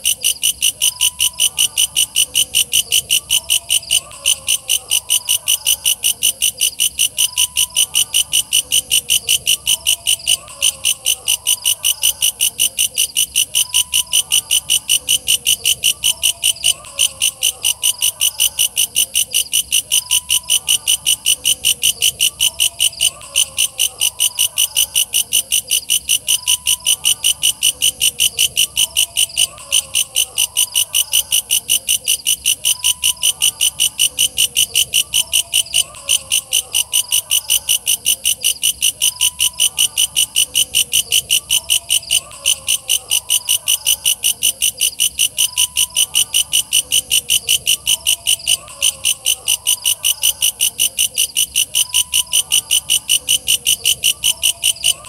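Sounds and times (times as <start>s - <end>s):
katydid chirping: 0.0s - 55.0s.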